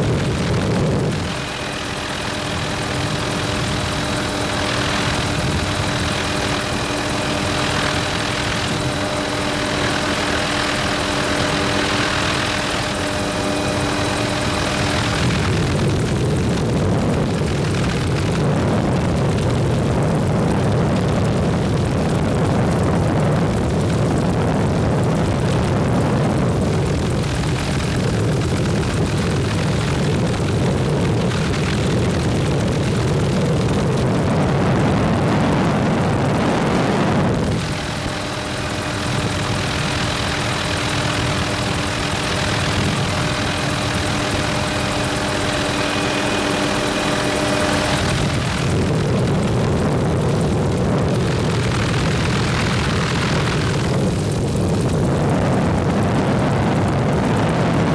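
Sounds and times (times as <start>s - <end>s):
helicopter rotor and engine drone: 0.0s - 57.9s
steady whining tones: 0.0s - 57.9s.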